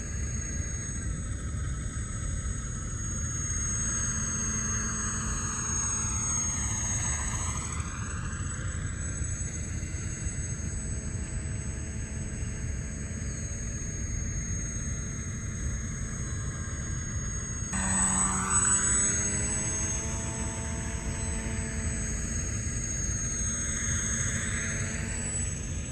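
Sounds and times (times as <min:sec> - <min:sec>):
rotor aircraft motors droning: 0:00.0 - 0:25.9.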